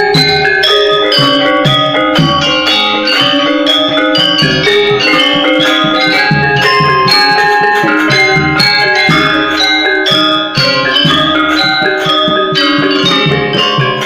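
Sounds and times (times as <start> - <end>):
metallophones ringing: 0.0 - 14.0
hand drum strokes: 1.1 - 14.0.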